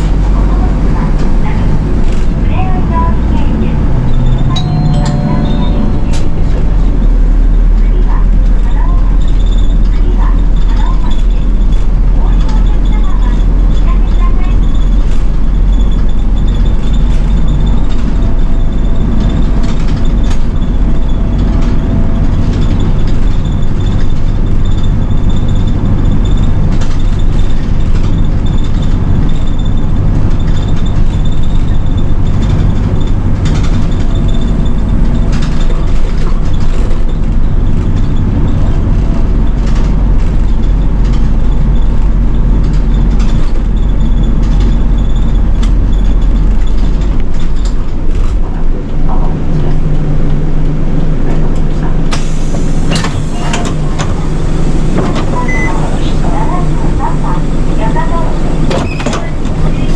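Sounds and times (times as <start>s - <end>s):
bus engine running: 0.0s - 59.9s
deep road rumble: 0.0s - 59.9s.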